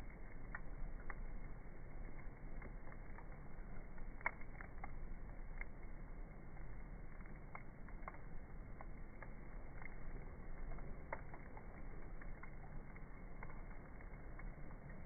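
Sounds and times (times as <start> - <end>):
campfire crackling and popping: 0.0 - 15.0
low rush of fire: 0.0 - 15.0.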